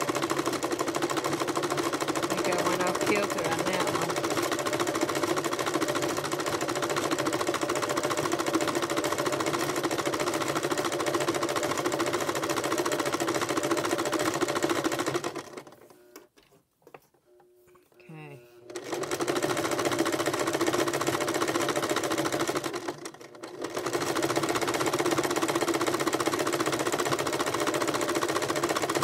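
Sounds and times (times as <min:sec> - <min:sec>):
sewing machine running: 0:00.0 - 0:16.0, 0:18.6 - 0:29.0.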